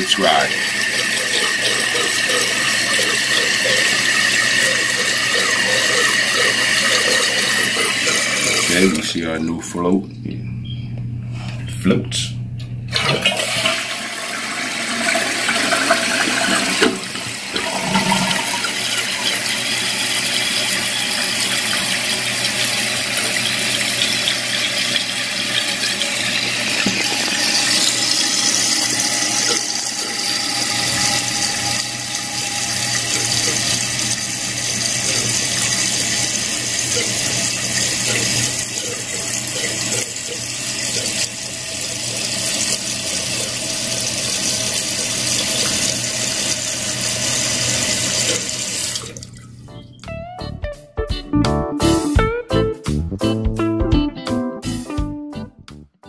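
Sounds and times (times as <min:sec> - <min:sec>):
water pouring into toilet tank: 0:00.0 - 0:09.2, 0:12.9 - 0:49.6.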